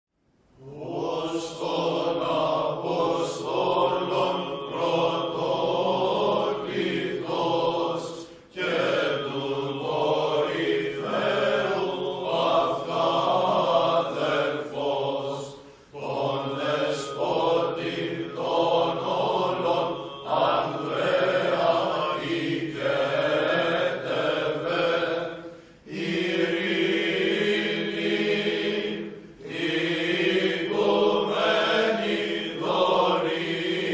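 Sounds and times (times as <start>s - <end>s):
choir chanting: 0.6s - 33.9s.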